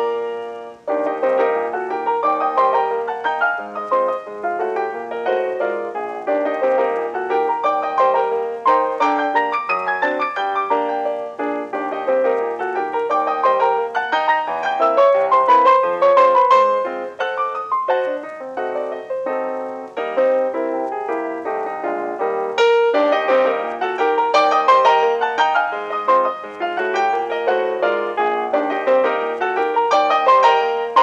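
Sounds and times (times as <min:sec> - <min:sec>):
background piano music: 0:00.0 - 0:31.0.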